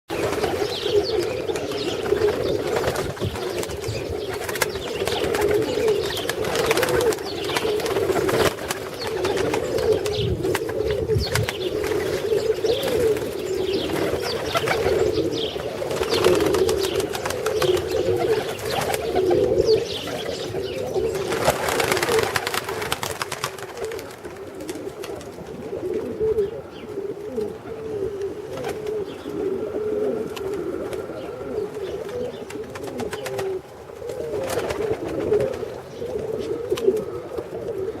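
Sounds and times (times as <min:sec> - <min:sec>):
pigeons cooing: 0:00.1 - 0:38.0.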